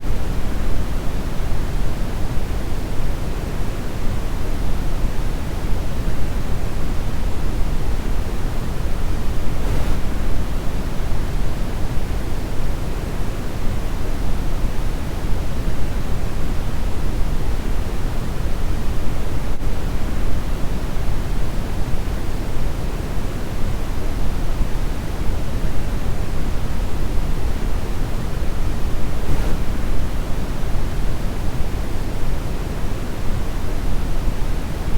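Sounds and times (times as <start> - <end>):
brown noise hiss: 0.0 - 34.9.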